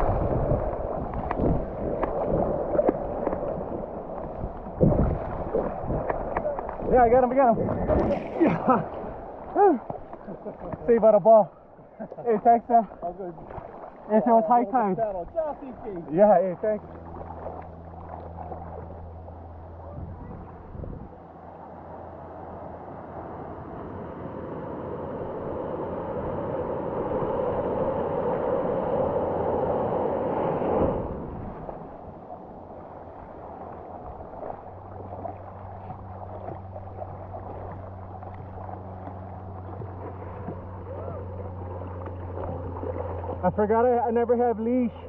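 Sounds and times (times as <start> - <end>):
ocean water rushing and splashing: 0.0 - 45.0
soft wash of water: 0.0 - 45.0.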